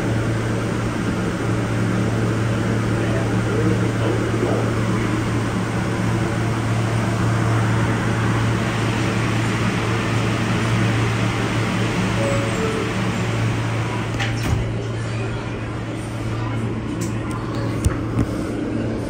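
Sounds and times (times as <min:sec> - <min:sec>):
subway wheels rumbling on rails: 0:00.0 - 0:19.0.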